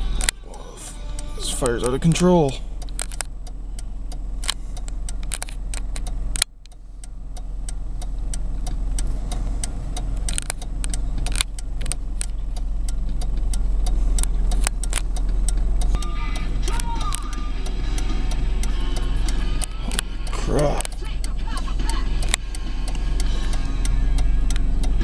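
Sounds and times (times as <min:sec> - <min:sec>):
car engine rumble: 0:00.0 - 0:25.0
road noise: 0:00.0 - 0:25.0
sharp clicks: 0:01.2 - 0:25.0.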